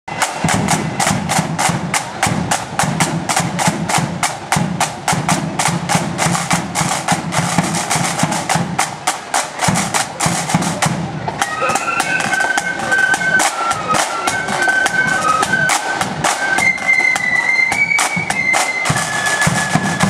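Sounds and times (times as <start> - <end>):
side drums beating march rhythm: 0.1 - 20.0.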